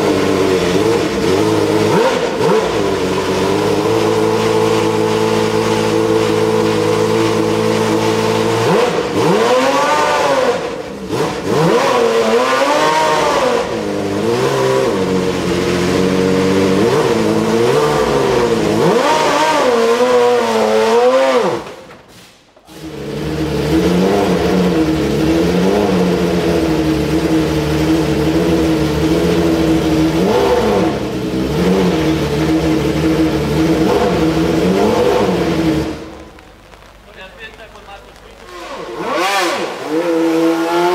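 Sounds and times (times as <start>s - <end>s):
racing car engine revving: 0.0s - 21.9s, 22.7s - 40.9s.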